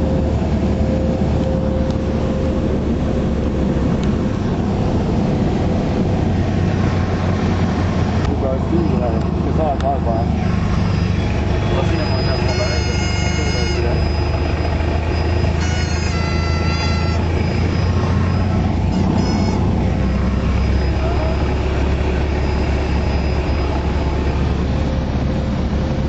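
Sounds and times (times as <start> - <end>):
propeller aircraft engine drone: 0.0 - 26.0.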